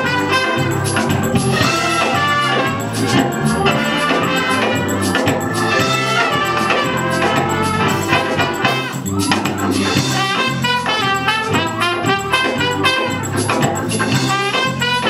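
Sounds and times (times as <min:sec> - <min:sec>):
organ accompaniment: 0:00.0 - 0:15.0
trumpets playing melody: 0:00.0 - 0:15.0.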